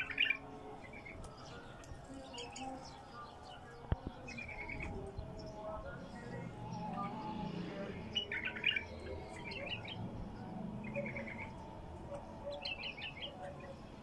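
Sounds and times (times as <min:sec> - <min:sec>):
bulbul singing chirping phrases: 0:00.0 - 0:14.0.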